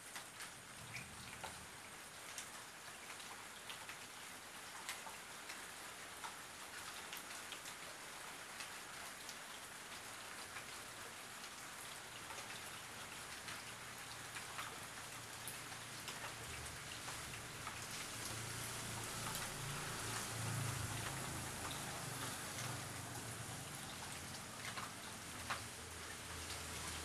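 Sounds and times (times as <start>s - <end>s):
rain on a roof: 0.0s - 27.0s.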